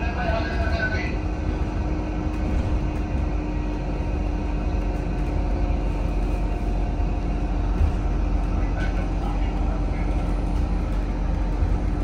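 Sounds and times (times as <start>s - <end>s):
constant hum: 0.0s - 12.0s
vehicle driving rumble: 0.0s - 12.0s.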